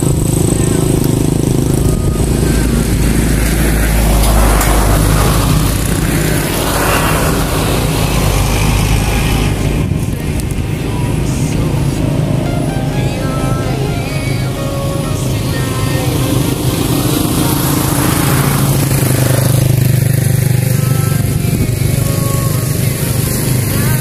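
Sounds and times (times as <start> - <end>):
vehicle engine rumble passing: 0.0 - 24.0.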